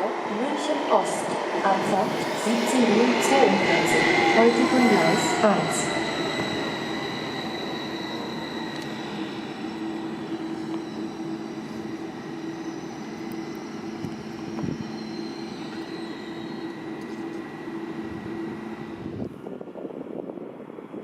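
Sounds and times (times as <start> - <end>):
electric train rumble and hum: 0.0 - 21.0
thin high whine: 1.0 - 19.3.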